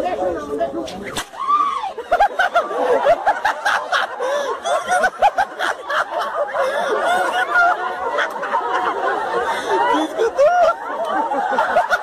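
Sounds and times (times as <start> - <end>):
crowd laughing: 1.6 - 12.0.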